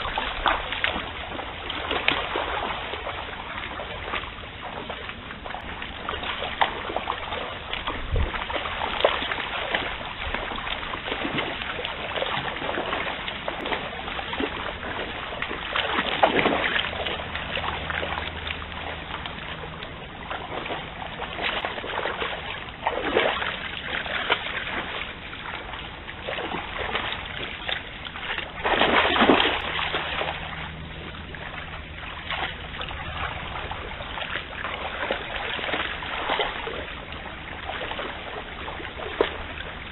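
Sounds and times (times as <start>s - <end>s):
legs splashing in water: 0.0s - 39.9s
stream rushing: 5.2s - 39.9s.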